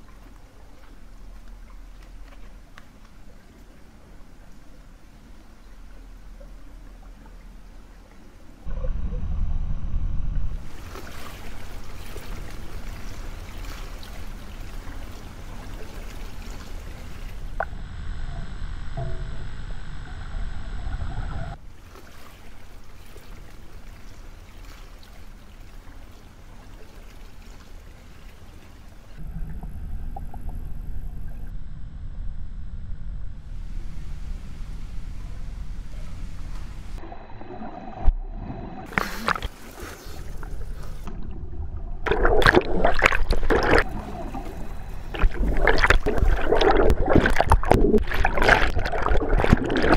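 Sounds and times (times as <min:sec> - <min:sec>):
muffled underwater rumble: 0:00.0 - 0:21.6, 0:28.7 - 0:49.9.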